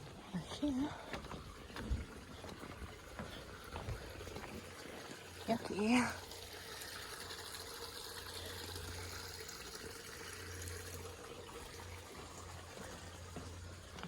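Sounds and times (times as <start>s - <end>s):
creek flowing: 0.0s - 14.0s.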